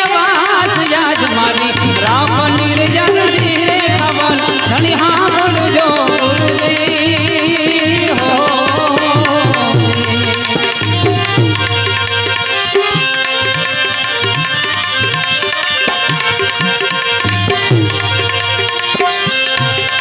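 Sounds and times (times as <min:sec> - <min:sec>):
harmonium chords: 0:00.0 - 0:20.0
tabla playing: 0:00.0 - 0:20.0.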